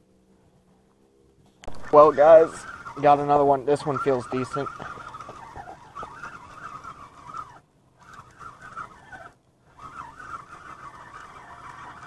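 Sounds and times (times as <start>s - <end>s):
fishing reel whirring: 1.6s - 12.0s.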